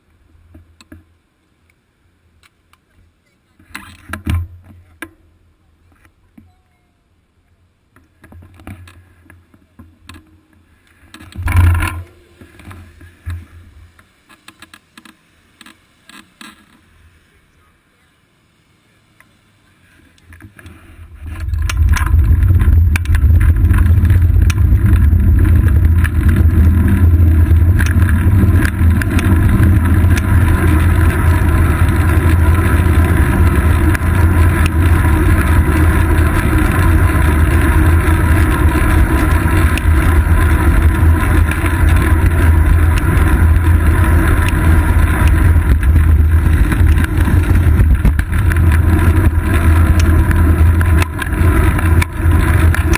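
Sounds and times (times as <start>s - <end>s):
wind and road rumble: 7.1s - 52.9s.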